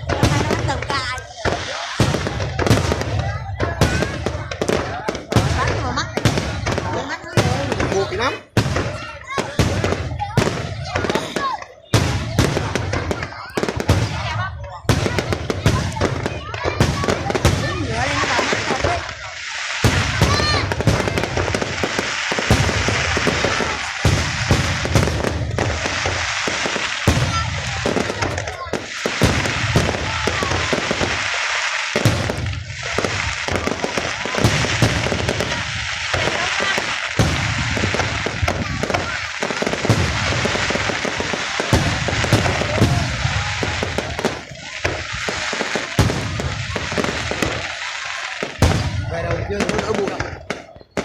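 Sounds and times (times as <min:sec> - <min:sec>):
fireworks bangs and booms: 0:00.0 - 0:51.0
fireworks crackling: 0:00.0 - 0:51.0.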